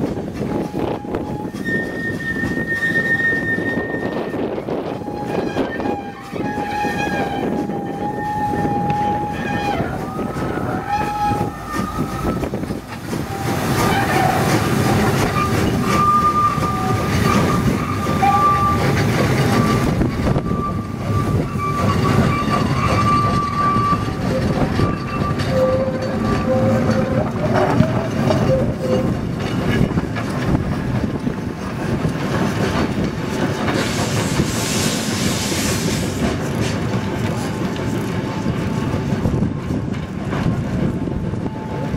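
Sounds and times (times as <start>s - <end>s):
steam locomotive chuffing: 0.0s - 41.9s.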